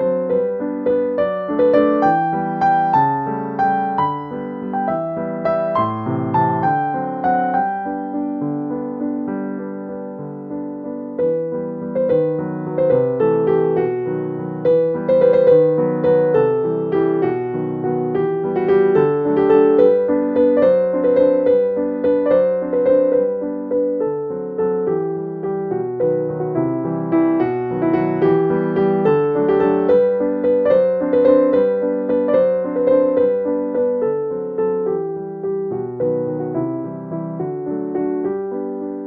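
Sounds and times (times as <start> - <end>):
soft piano music: 0.0 - 39.0.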